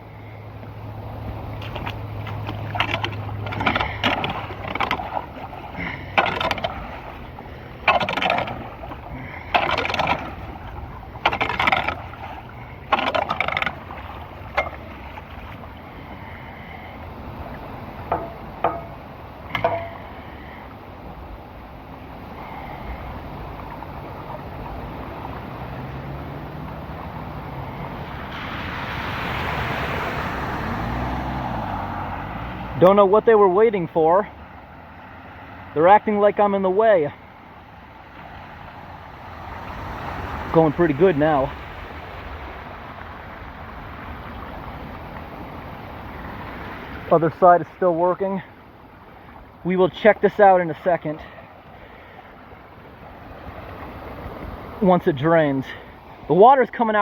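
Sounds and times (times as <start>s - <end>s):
low vehicle engine hum: 0.0s - 49.7s
splashing and scraping in floodwater: 0.0s - 57.0s
tyres rushing through water: 0.0s - 57.0s.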